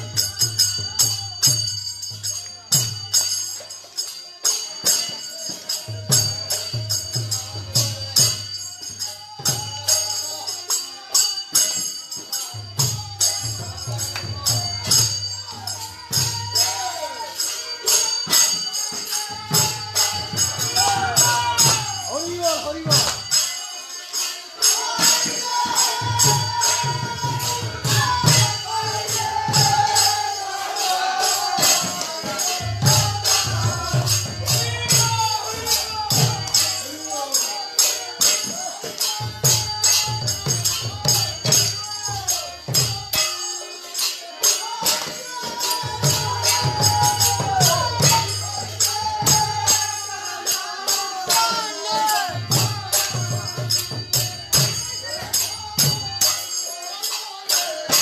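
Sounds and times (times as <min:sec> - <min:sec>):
group singing a devotional chant: 0:00.0 - 0:58.0
hand cymbals clashing: 0:00.0 - 0:58.0.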